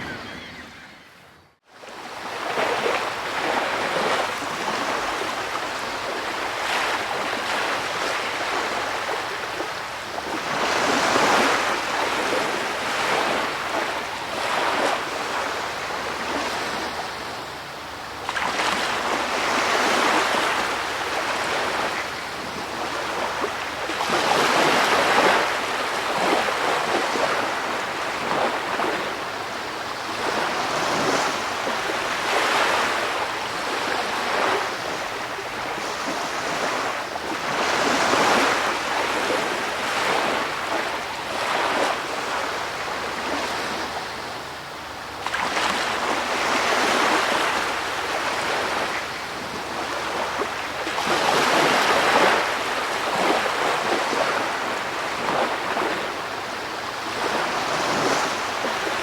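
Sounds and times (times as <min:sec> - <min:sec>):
ocean waves washing in: 0:00.0 - 0:59.0.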